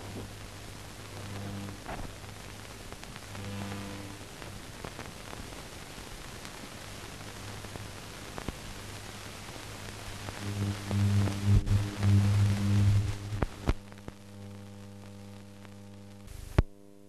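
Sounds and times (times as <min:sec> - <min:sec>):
clicks and crackles: 0:00.0 - 0:16.8
film soundtrack hiss: 0:00.0 - 0:17.0
low electrical hum: 0:00.0 - 0:17.0.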